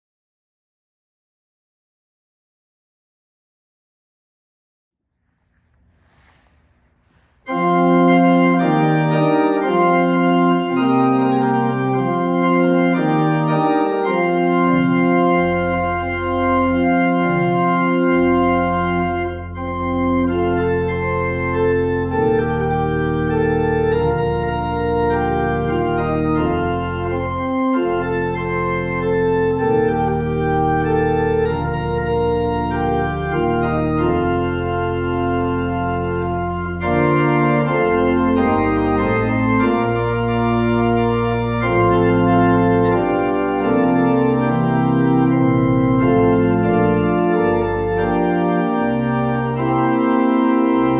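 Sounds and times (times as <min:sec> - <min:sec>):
organ playing sustained chords: 0:07.2 - 0:50.9.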